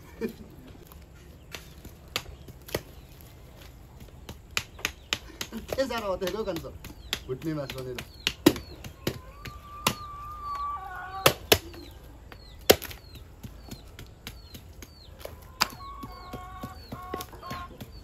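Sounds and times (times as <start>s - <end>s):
cleaver chopping meat and bone: 1.4s - 10.1s, 11.2s - 18.0s.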